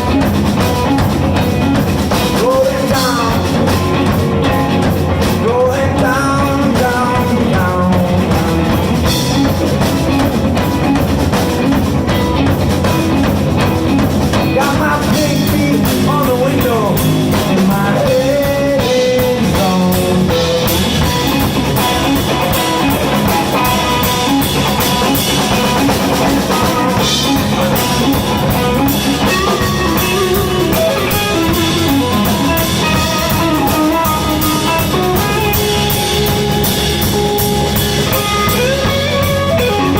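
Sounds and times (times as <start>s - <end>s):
blues band playing live: 0.0s - 39.9s.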